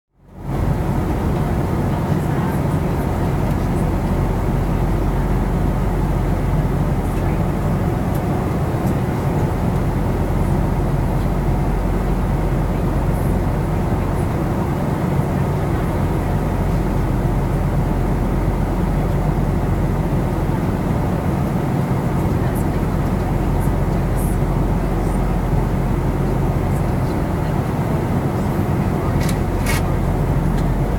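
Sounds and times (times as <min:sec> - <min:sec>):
jet engine drone in cabin: 0:00.2 - 0:30.9.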